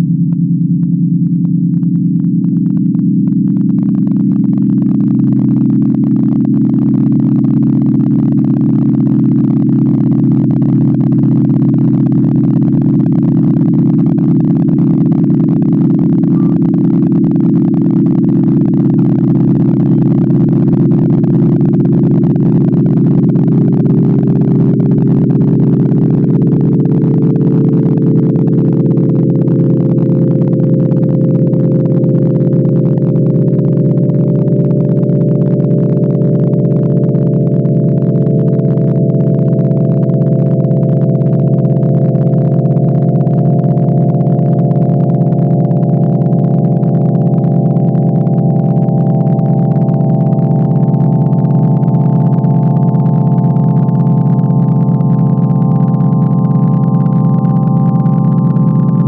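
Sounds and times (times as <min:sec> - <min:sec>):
electronic drone tones: 0:00.0 - 0:59.0
higher electronic tone: 0:00.0 - 0:59.0.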